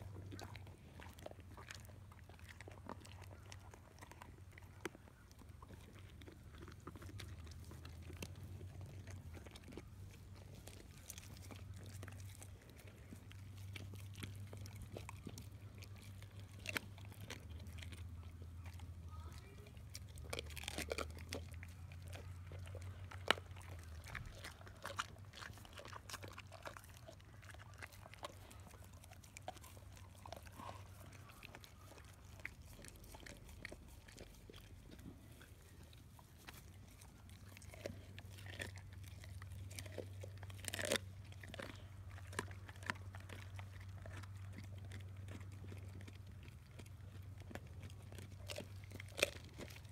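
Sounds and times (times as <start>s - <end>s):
bone cracking and crunching: 0.0s - 19.0s, 19.8s - 49.9s
dogs chewing wetly: 0.0s - 49.9s.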